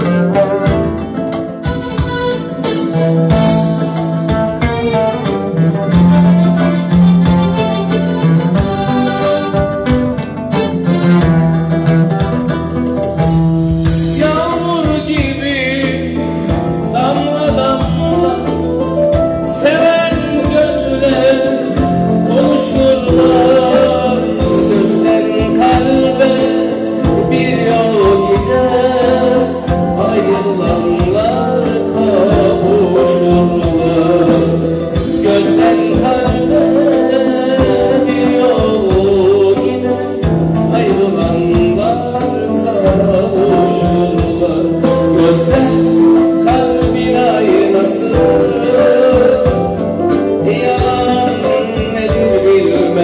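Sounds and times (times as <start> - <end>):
man singing: 0.0 - 11.2, 13.8 - 53.0
electronic keyboard: 0.0 - 53.0
plucked oud: 0.0 - 53.0.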